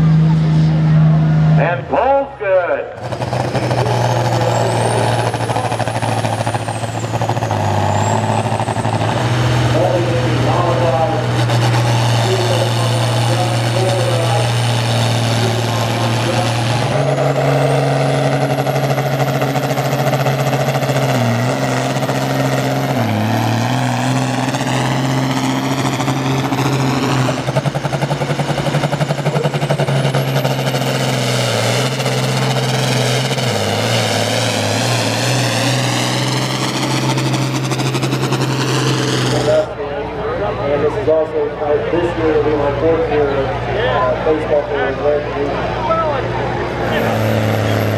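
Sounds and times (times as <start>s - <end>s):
diesel tractor engine at full throttle: 0.0s - 47.9s
turbocharger whine: 0.0s - 47.9s.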